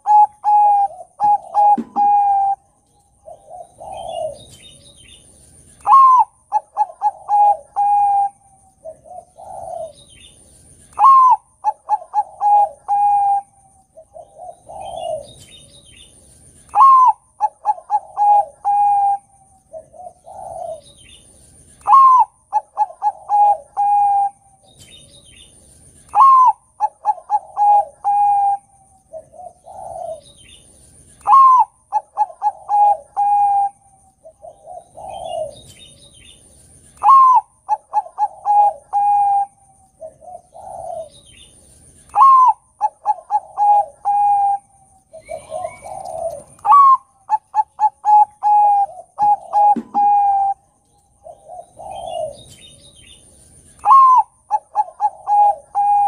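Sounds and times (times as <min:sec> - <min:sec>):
dove cooing song: 0:00.0 - 0:56.0.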